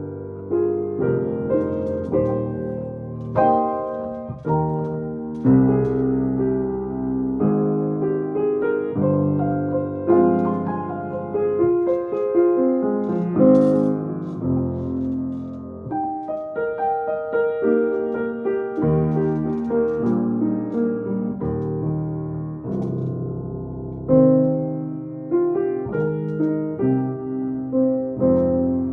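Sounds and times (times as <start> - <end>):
slow piano piece: 0.0 - 28.9.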